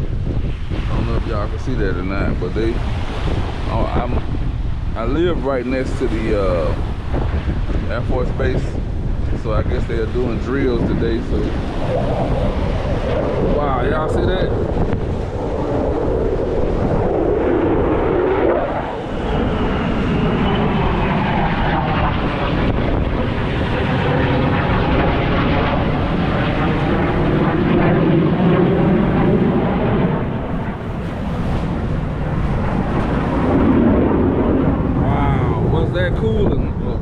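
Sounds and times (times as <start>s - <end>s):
fighter jet flying over: 0.0s - 37.0s.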